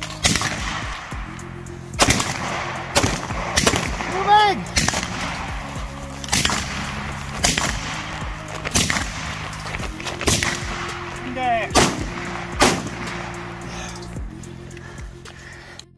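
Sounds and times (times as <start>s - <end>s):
rifle shots: 0.0s - 1.2s, 2.0s - 13.6s
background music: 0.0s - 15.9s.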